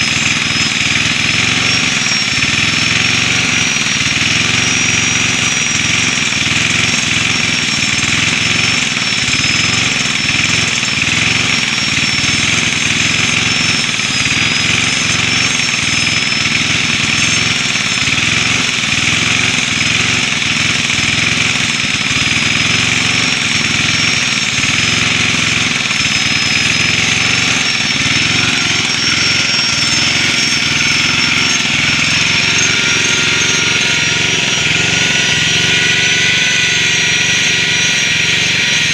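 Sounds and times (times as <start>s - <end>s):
angle grinder whining: 0.0s - 38.9s.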